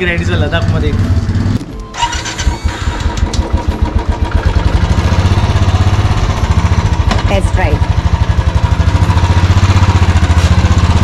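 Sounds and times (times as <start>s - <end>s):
motorcycle engine starting and idling: 0.0s - 11.0s.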